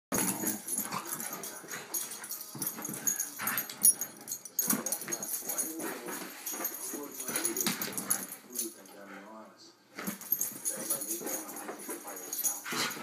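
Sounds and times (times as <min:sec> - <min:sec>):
dogs play-fighting noises: 0:00.1 - 0:09.3, 0:09.9 - 0:13.0.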